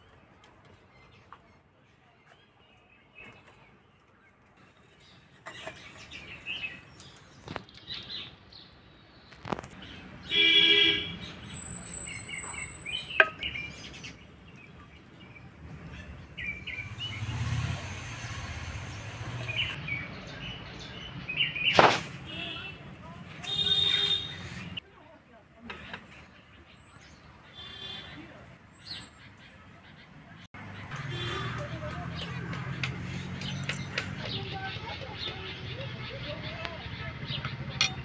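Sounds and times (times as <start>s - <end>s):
birds chirping and calling: 0.0s - 22.1s, 26.1s - 38.0s.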